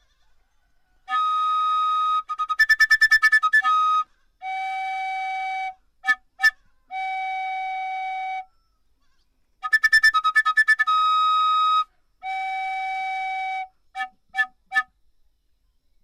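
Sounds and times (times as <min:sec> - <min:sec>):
flute-like wind instrument melody: 0:01.0 - 0:08.7, 0:09.6 - 0:15.0.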